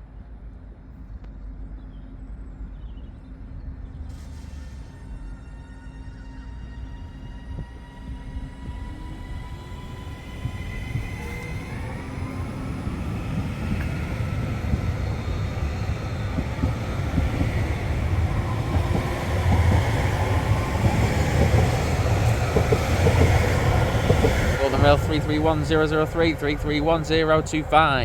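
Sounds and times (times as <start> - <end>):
train rumble and rail noise: 0.0 - 28.0.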